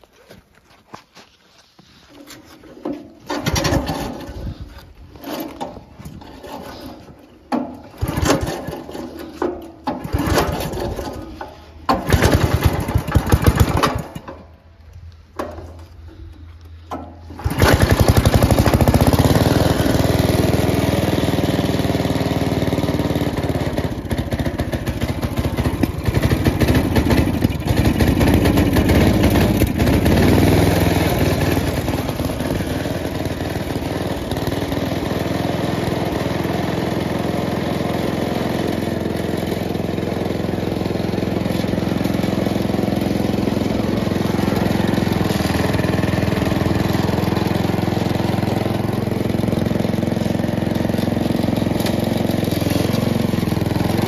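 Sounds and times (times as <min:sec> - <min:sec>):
snowblower engine cranking and running: 0:01.8 - 0:54.0.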